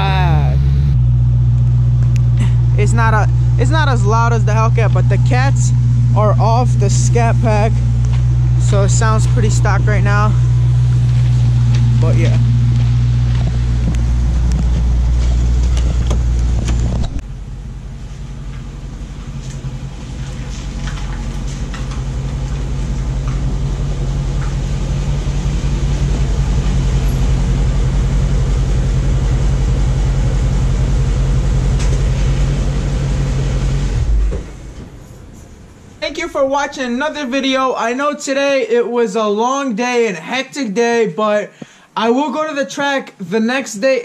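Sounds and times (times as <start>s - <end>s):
engine idling low rumble: 0.0s - 37.9s.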